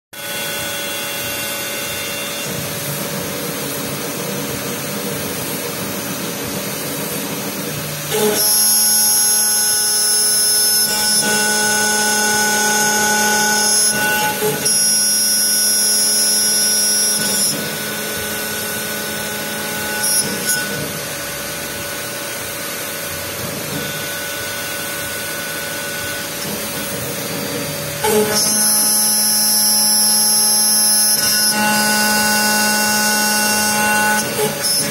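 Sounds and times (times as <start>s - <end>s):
router spindle milling with whine: 0.2s - 34.9s.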